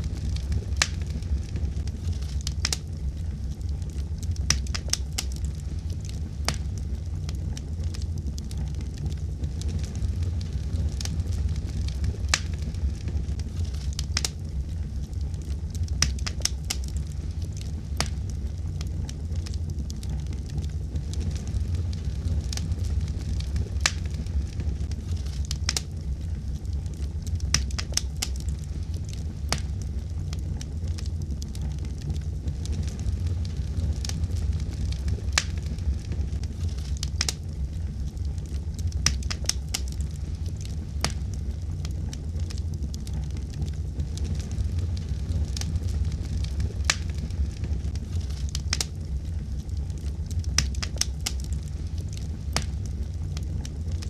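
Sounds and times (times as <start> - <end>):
fire flame rumble: 0.0 - 54.0
wood fire crackling and popping: 0.0 - 54.0.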